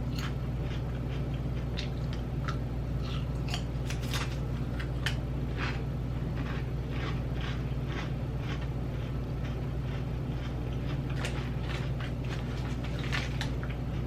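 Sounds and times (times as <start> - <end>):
potato chips crunching: 0.0 - 14.0
steady low hum: 0.0 - 14.0.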